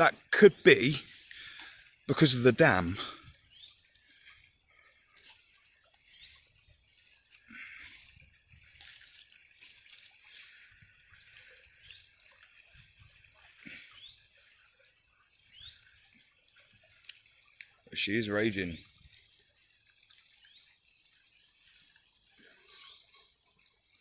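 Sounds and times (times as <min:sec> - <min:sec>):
sharp dripping ticks: 0:00.0 - 0:22.1.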